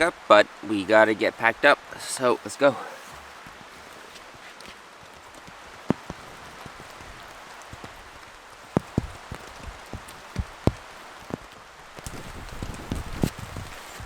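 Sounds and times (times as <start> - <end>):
large raindrops ticking: 0.0 - 14.0
steady rain: 0.0 - 14.0.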